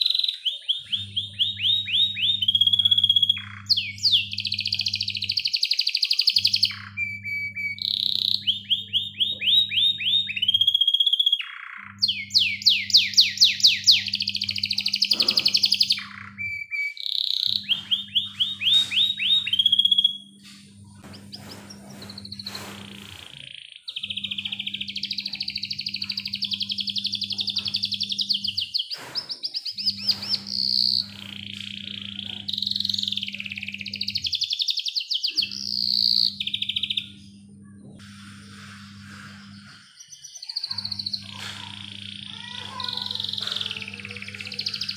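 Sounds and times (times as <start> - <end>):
canary singing trills: 0.0 - 44.9.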